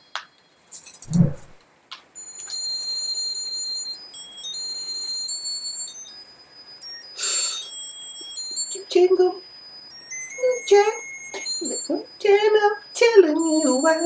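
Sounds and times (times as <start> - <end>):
tinny electronic christmas tune: 2.2 - 14.0.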